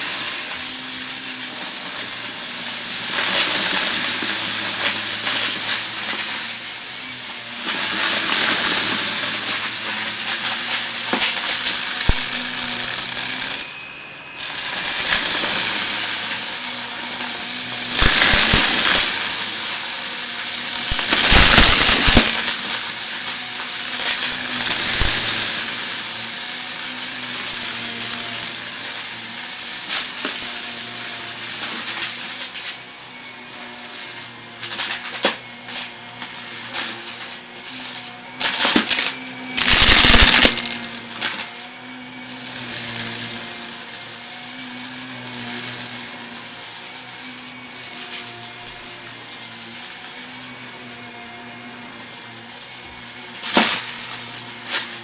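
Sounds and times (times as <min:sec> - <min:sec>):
debris crackling up nozzle: 0:00.0 - 0:55.0
vacuum cleaner running: 0:00.0 - 0:55.0.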